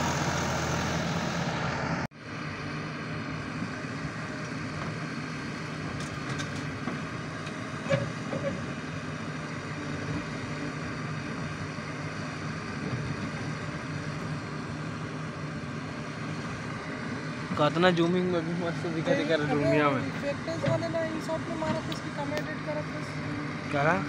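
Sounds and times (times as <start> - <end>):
diesel engines running: 0.0 - 24.0.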